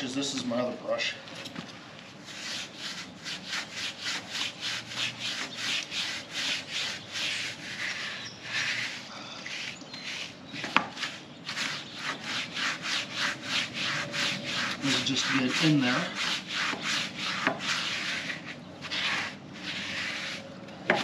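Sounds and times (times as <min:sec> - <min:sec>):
bristle brush scrubbing metal wheel: 0:02.2 - 0:21.0.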